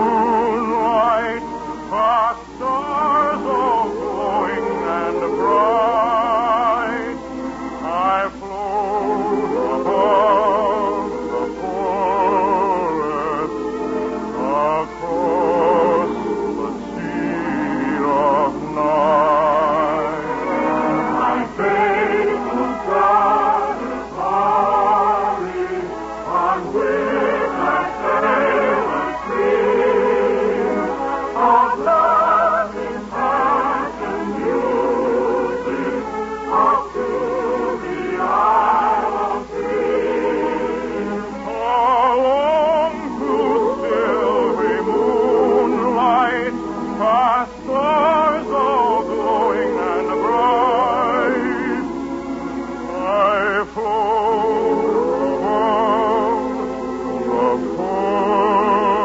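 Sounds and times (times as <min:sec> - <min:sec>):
orchestral music: 0:00.0 - 0:59.0.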